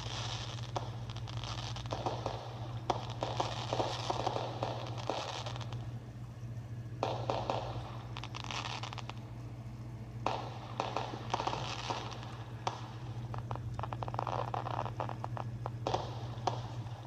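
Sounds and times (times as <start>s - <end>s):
fireworks popping and crackling: 0.0s - 17.0s
low electrical hum: 0.0s - 17.0s.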